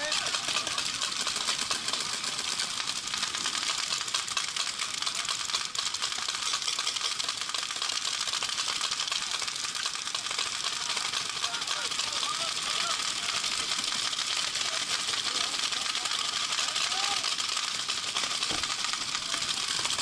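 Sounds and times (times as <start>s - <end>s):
paintball markers firing rapidly: 0.0s - 20.0s.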